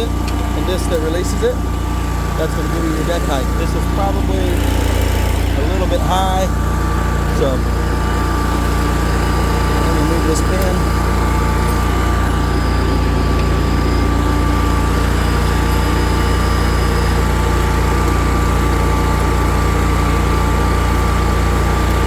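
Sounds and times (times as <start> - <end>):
mower engine running: 0.0 - 22.0.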